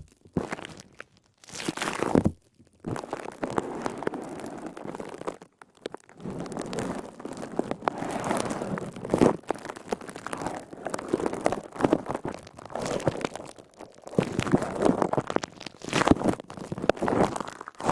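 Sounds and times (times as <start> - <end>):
sponge squeezed crackling: 0.0 - 17.9.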